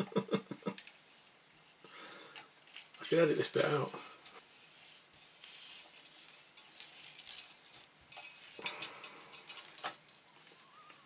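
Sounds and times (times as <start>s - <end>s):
film and plastic spool rustling: 0.7s - 11.0s.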